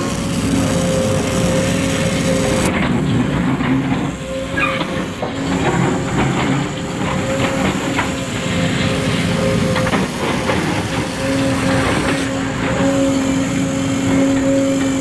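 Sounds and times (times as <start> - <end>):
motor and gear hum: 0.0 - 15.0.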